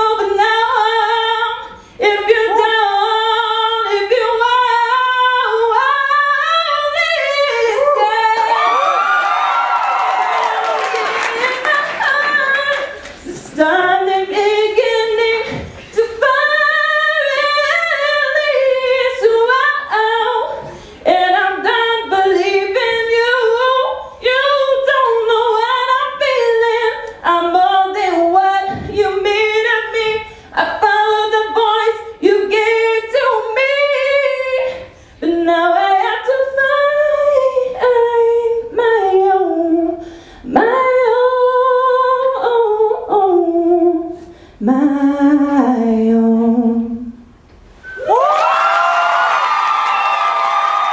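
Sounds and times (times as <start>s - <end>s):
woman singing into a microphone: 0.0s - 8.8s, 10.6s - 47.3s.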